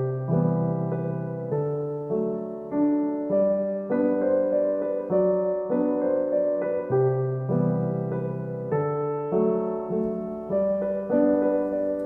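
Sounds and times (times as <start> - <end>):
piano playing soft chords: 0.0 - 12.0.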